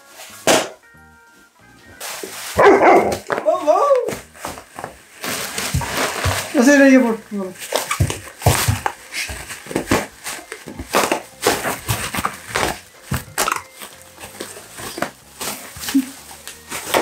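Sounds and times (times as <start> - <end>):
dog chewing bubble wrap: 2.0 - 17.0
plastic crinkling: 2.0 - 17.0.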